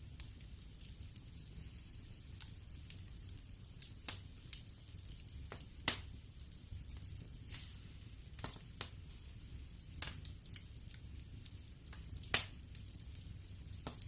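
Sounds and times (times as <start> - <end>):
low rumble of flame: 0.0 - 14.0
wood fire crackles and pops: 0.0 - 14.0.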